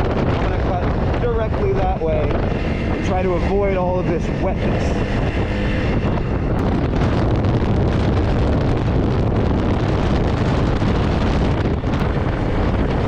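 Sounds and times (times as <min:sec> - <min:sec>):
motorcycle engine drone: 0:00.0 - 0:13.0
road noise: 0:00.0 - 0:13.0
wind rushing over microphone: 0:00.0 - 0:13.0.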